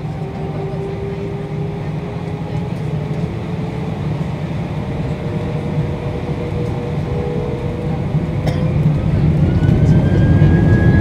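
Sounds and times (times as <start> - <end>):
jet engines idling rumble: 0.0 - 11.0.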